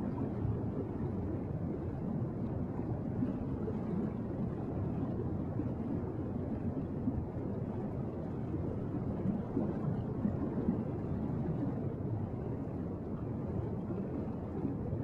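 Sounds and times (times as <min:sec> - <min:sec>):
low rumble of water: 0:00.0 - 0:15.0.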